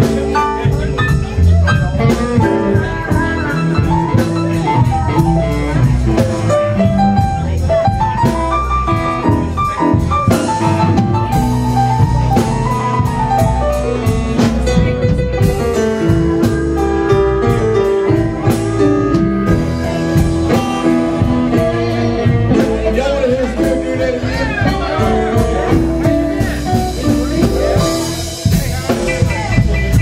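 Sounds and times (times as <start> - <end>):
drum hits: 0.0 - 30.0
keyboard playing blues: 0.0 - 30.0.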